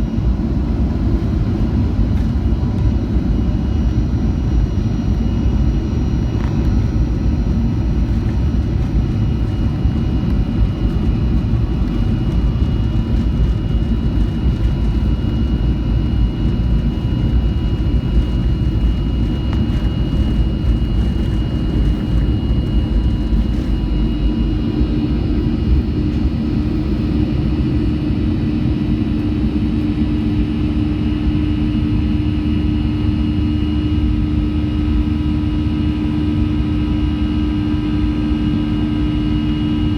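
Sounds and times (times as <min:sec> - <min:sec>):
low hum: 0:00.0 - 0:33.0
jet cabin rumble: 0:00.0 - 0:39.9
thin steady engine whines: 0:00.0 - 0:39.9.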